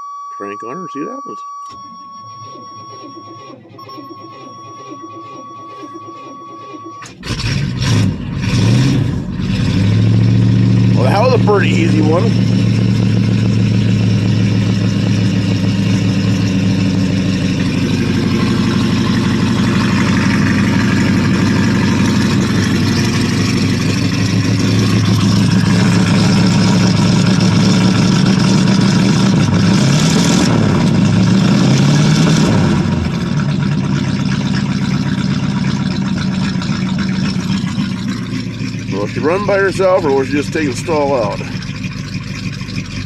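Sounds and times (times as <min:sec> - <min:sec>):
car engine running: 0:00.4 - 0:43.0.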